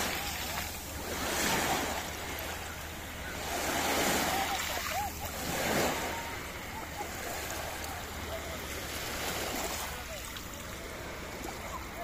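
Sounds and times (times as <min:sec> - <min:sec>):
faint distant voices: 0:00.0 - 0:12.0
small waves washing over sand: 0:00.0 - 0:12.0.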